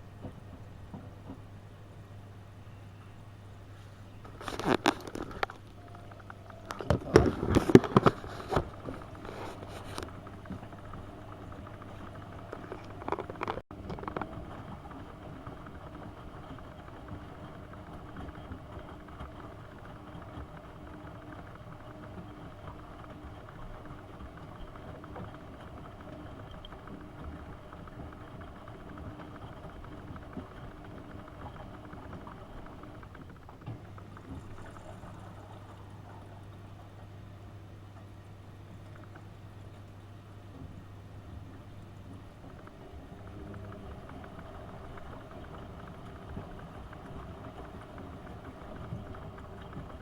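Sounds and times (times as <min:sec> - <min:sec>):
washing machine running: 0:00.0 - 0:50.0.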